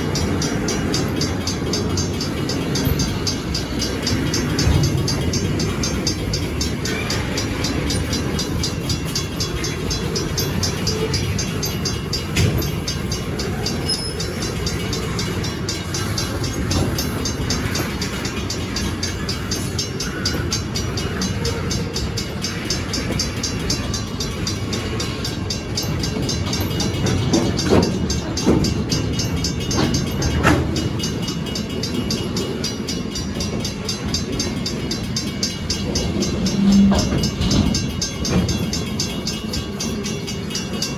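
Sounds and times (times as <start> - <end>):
train clanks and squeals: 0.0 - 40.9
train wheels rumbling on rail: 0.0 - 40.9.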